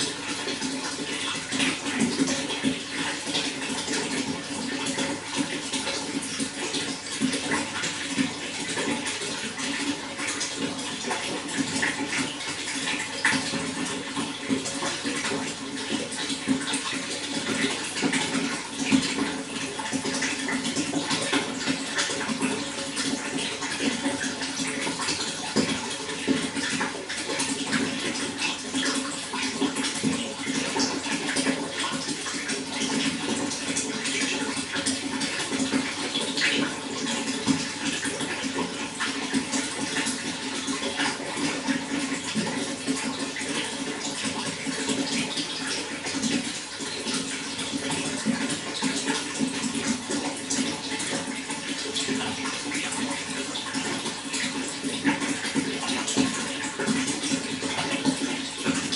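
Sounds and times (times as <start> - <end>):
running water flowing: 0.0 - 58.9.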